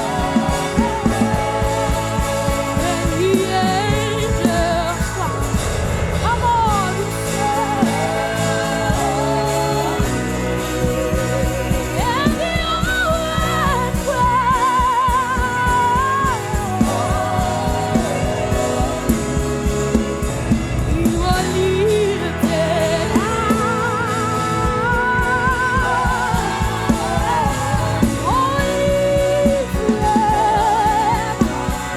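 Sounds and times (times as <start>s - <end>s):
band with bass and drums: 0.0s - 31.9s
person singing with vibrato: 0.0s - 31.9s.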